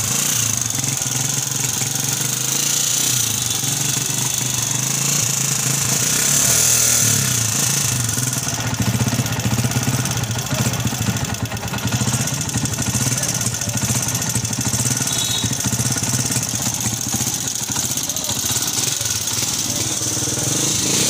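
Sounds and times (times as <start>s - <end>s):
motorcycle engine idling with ticking: 0.0s - 21.0s.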